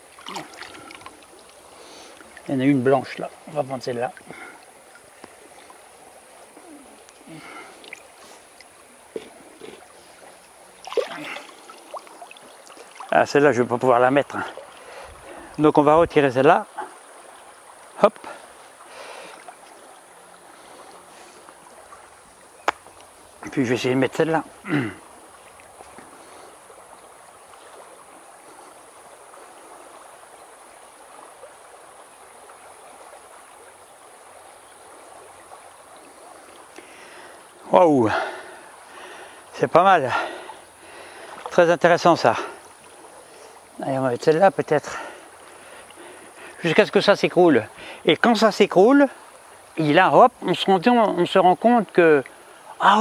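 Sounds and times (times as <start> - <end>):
shallow river over stones: 0.0 - 53.0
stream babbling over rocks: 0.0 - 53.0.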